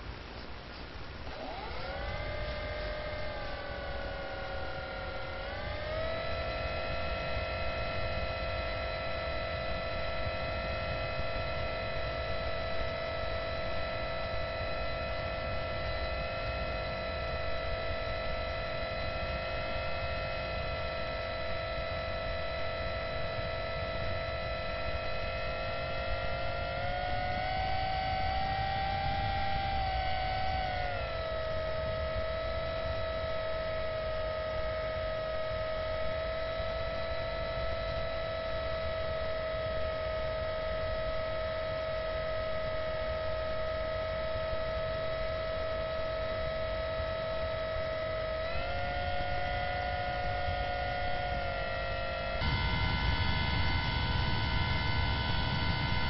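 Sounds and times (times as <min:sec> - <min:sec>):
rc airplane motor whining: 0:01.2 - 0:56.0.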